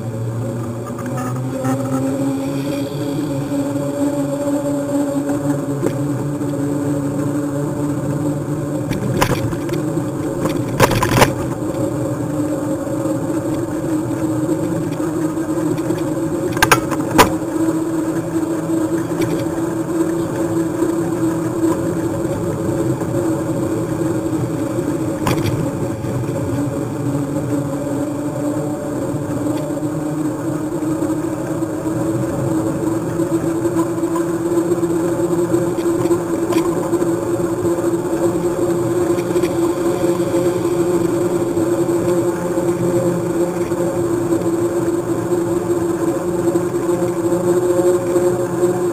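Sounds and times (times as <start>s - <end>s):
motor droning hum: 0.0s - 48.9s.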